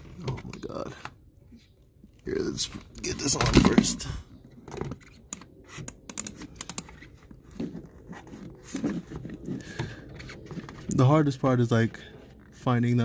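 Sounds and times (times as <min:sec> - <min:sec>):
rubbing and handling sounds: 0:00.0 - 0:13.0.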